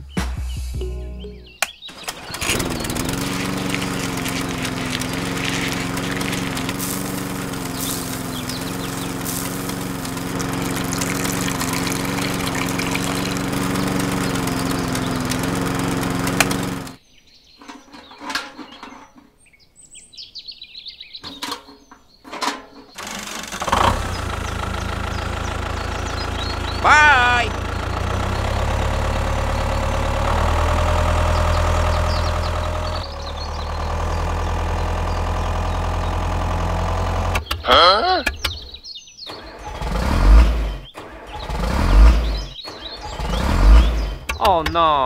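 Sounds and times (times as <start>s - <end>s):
birds chirping: 0.0s - 45.0s
small engine running: 1.9s - 17.0s, 23.0s - 38.6s, 39.3s - 44.8s.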